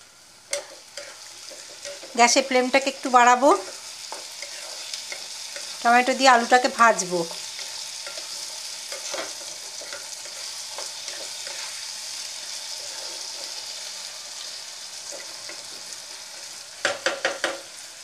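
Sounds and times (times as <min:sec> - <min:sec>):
vegetables sizzling in hot oil: 0:00.0 - 0:18.0
spatula scraping a pan: 0:00.5 - 0:06.7, 0:07.3 - 0:13.9, 0:15.0 - 0:17.5.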